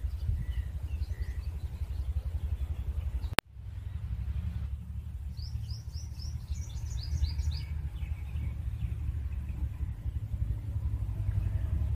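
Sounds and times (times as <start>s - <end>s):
nestling birds chirping: 0.0s - 11.9s
steady low rumble: 0.0s - 11.9s.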